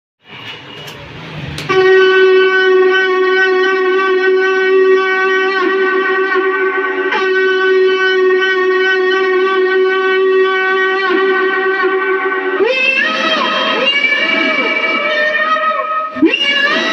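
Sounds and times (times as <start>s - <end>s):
electric conch horn tone: 1.6s - 16.9s.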